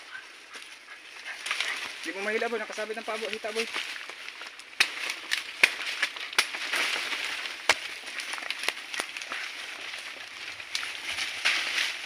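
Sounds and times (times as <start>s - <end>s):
dry leaves crackling underfoot: 0.0s - 12.0s
twigs snapping underfoot: 0.5s - 2.1s, 2.7s - 12.0s.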